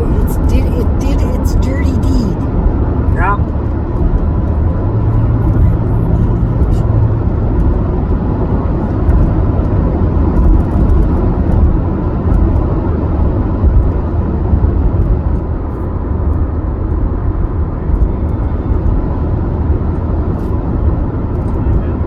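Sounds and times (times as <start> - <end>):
car road noise inside cabin: 0.0 - 22.0.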